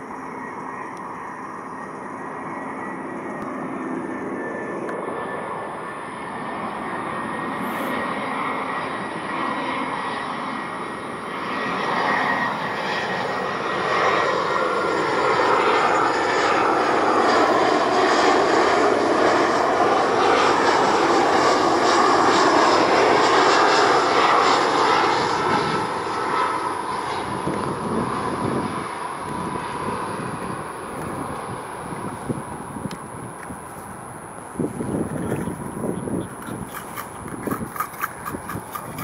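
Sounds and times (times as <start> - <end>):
jet airliner engines on approach: 0.0 - 39.0.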